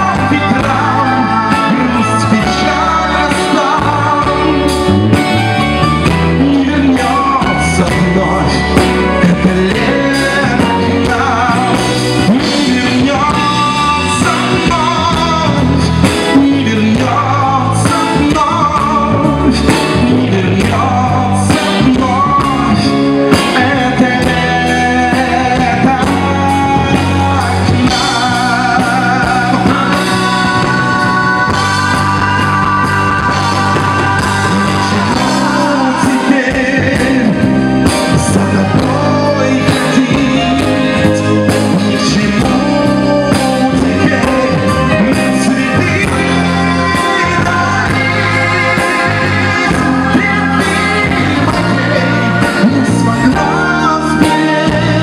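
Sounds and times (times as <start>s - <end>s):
bass guitar: 0.0s - 55.0s
drums: 0.0s - 55.0s
electric guitars: 0.0s - 55.0s
person singing: 0.0s - 55.0s.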